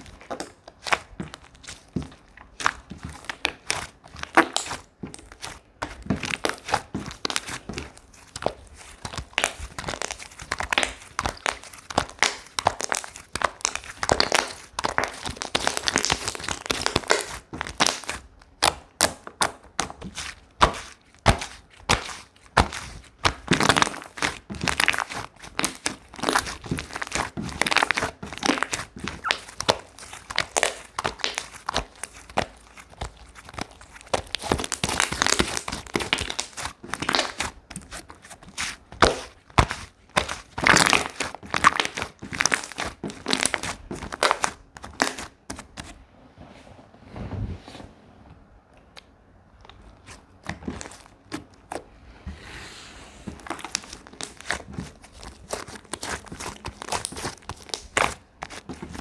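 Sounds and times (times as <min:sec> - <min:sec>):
slime squished by hand crackling: 0:00.0 - 0:45.9, 0:48.9 - 0:51.9, 0:53.3 - 0:59.0.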